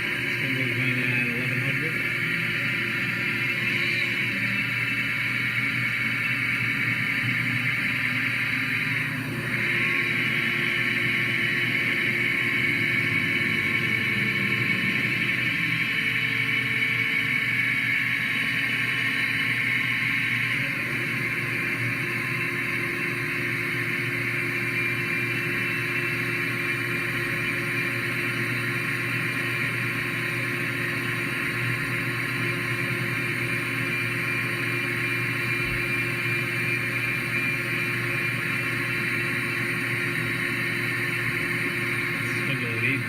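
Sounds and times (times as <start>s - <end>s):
lathe machine hum with whine: 0.0s - 43.0s.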